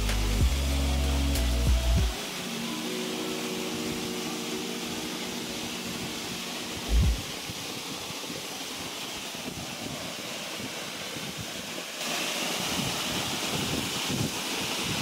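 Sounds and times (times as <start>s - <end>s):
waterfall pouring onto rocks: 0.0s - 15.0s.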